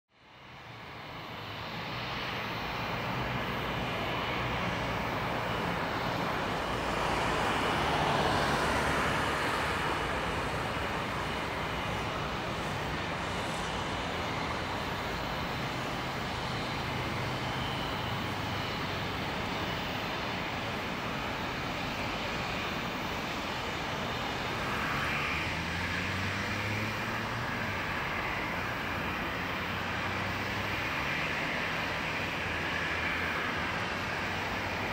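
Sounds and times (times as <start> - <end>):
jet engines taxiing: 0.2 - 34.9.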